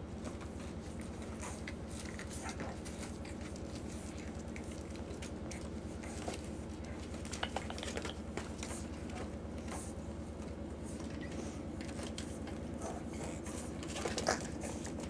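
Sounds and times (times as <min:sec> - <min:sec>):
steady low hum: 0:00.0 - 0:15.0
puppies scuffling on rug: 0:00.1 - 0:15.0.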